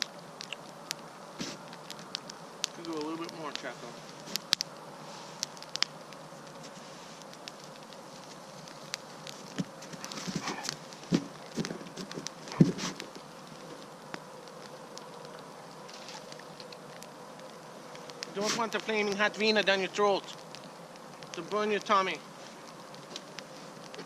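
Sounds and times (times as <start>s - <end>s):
campfire crackling and popping: 0.0s - 24.0s
faint steady whine: 0.0s - 24.0s.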